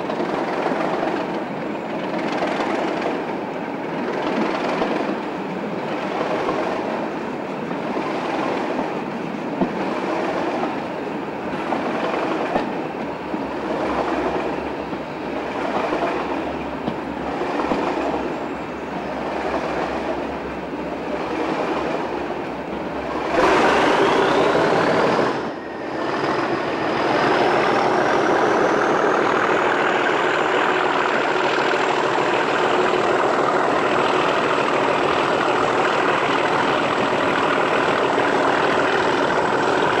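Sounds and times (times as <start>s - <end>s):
diesel locomotive engine working hard: 0.0s - 40.0s
train wheels clattering over rail joints: 0.0s - 40.0s.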